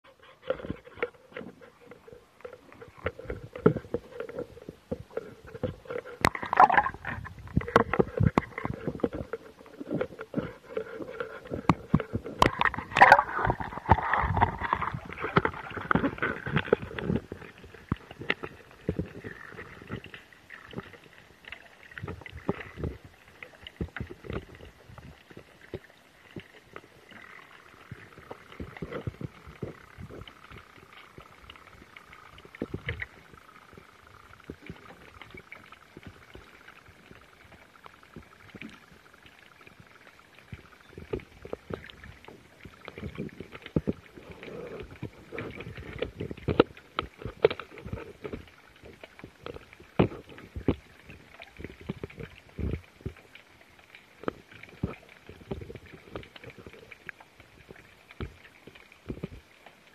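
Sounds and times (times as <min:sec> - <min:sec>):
sea water sloshing and gurgling: 0:00.0 - 0:59.9.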